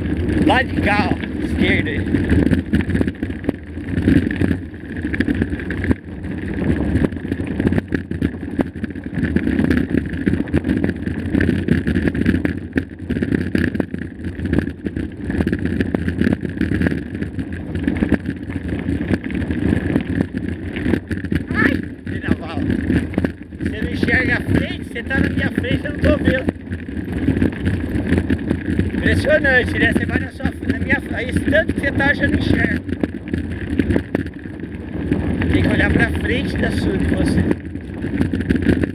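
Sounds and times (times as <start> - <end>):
bike knocks and rattles: 0.0 - 38.9
bike tyres on dirt trail: 0.0 - 38.9.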